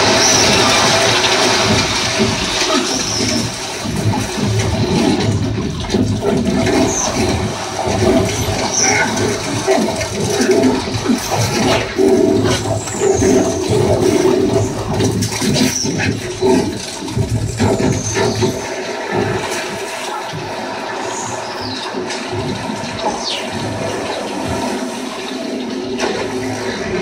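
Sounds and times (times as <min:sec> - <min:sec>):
water splashing and rushing: 0:00.0 - 0:27.0.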